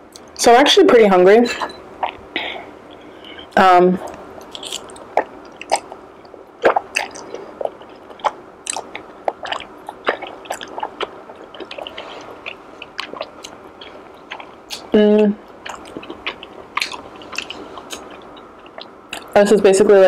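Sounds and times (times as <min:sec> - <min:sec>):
person chewing: 0:02.0 - 0:02.3, 0:02.9 - 0:14.9, 0:15.5 - 0:19.4.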